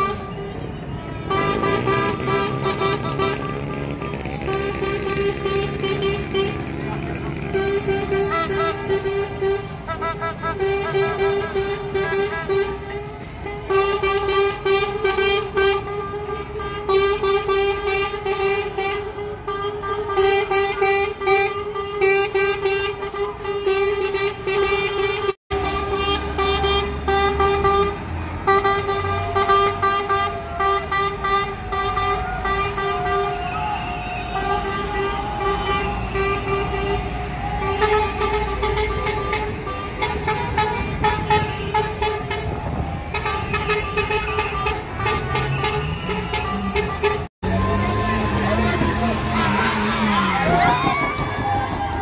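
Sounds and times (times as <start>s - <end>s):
vehicle horns sounding: 0.0s - 51.9s
passing traffic: 0.0s - 52.0s
truck engines rumbling: 0.0s - 52.0s.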